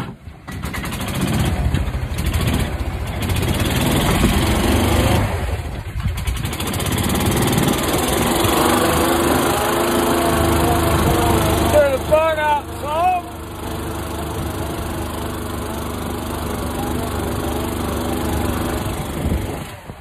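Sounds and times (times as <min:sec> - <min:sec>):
small engine revving under load: 0:00.4 - 0:20.0.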